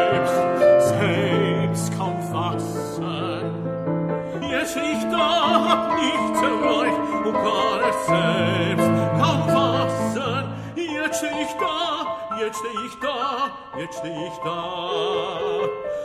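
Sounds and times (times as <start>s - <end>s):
man singing with vibrato: 0.0s - 16.0s
piano: 0.0s - 16.0s.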